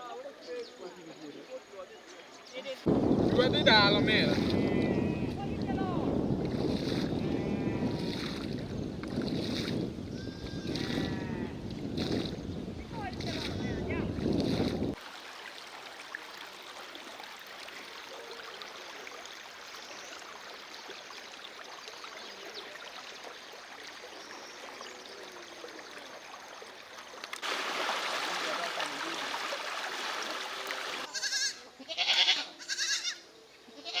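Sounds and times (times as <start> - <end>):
floodwater rushing: 2.8 - 31.1.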